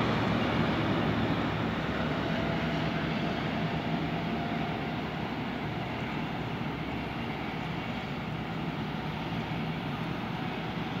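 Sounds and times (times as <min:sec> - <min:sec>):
distant highway traffic drone: 0:00.0 - 0:11.0.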